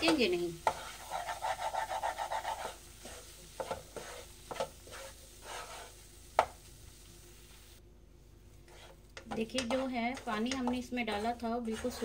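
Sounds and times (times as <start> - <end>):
spatula scraping a pan: 0.0 - 6.6, 8.6 - 12.0
spatula tapping pan: 0.0 - 6.6, 8.7 - 12.0
faint sizzle: 0.0 - 12.0.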